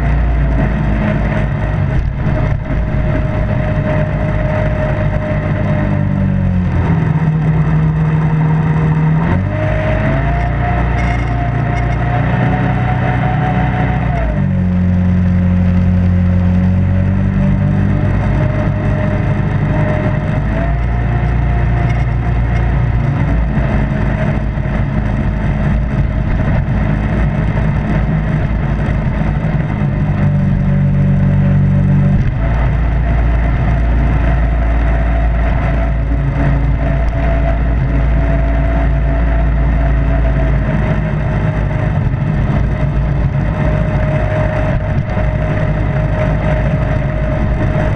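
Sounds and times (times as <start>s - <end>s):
jet boat engine drone: 0.0s - 47.9s.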